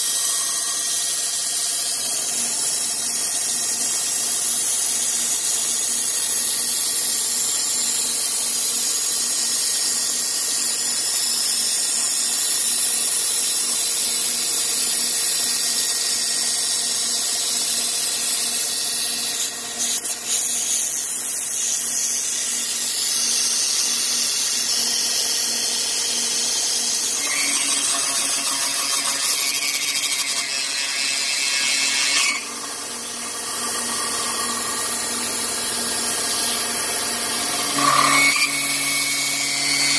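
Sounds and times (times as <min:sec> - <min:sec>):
power tool milling: 0:00.0 - 0:39.9.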